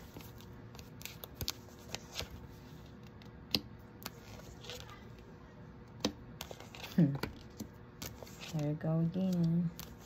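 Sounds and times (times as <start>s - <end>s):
cards being shuffled: 0.0s - 5.2s, 6.0s - 10.0s.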